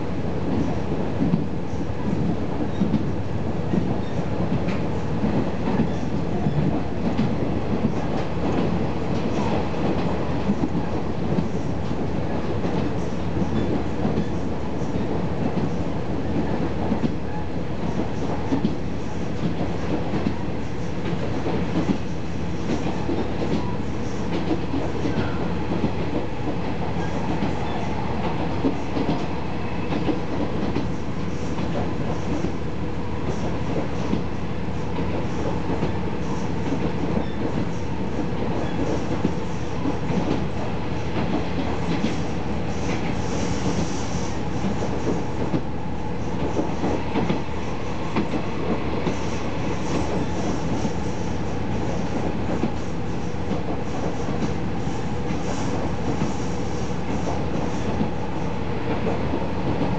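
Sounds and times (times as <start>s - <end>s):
railcar engine and wheels rumbling: 0.0s - 59.9s.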